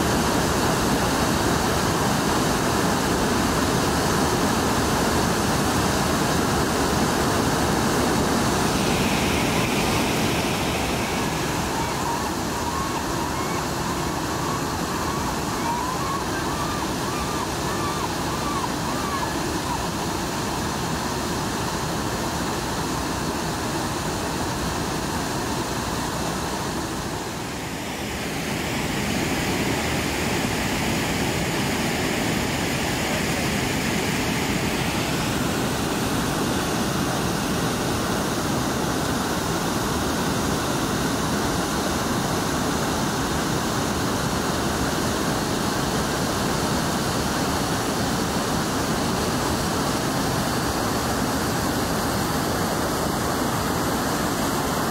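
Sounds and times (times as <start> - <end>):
river rapids rushing: 0.0 - 54.9.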